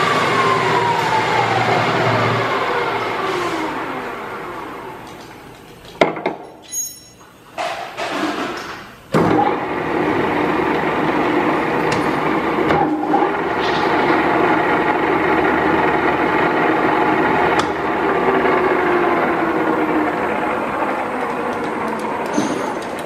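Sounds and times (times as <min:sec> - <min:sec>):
lathe running: 0:00.0 - 0:05.7, 0:09.2 - 0:23.0.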